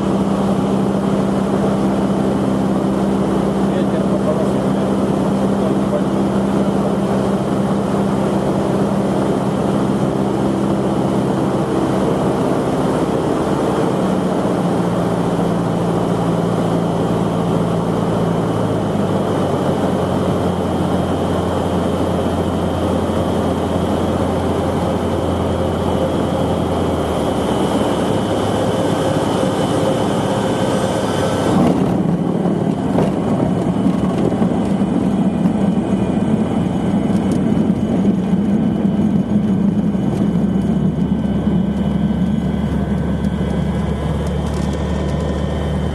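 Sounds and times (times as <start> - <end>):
airplane engine and propeller droning: 0.0 - 45.9.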